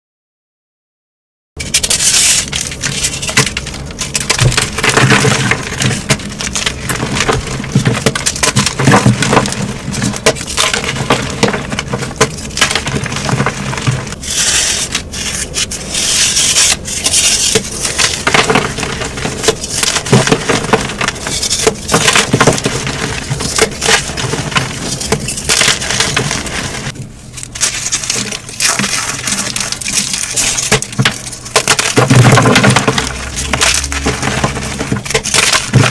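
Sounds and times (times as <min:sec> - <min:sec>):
chalk being crushed and crunching: 0:01.6 - 0:35.9.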